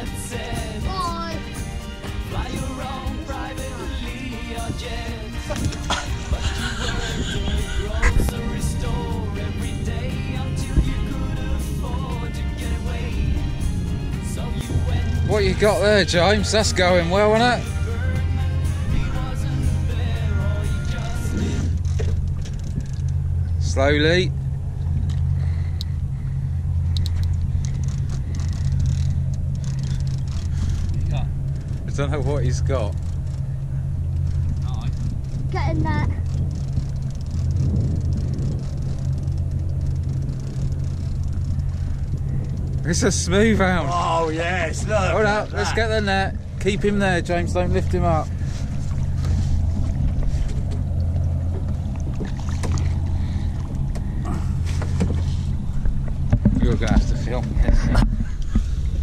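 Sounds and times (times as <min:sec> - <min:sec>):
water splashing against hull: 0:00.0 - 0:43.8, 0:44.7 - 0:59.0
boat motor idling: 0:00.0 - 0:59.0
steady low rumble: 0:00.0 - 0:59.0.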